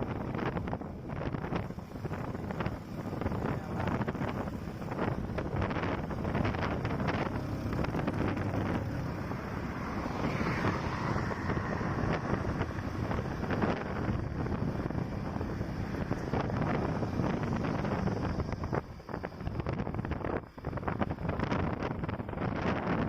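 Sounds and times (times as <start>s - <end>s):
motorcycle engine running: 0.0s - 20.4s
wind rushing over microphone: 0.0s - 23.0s.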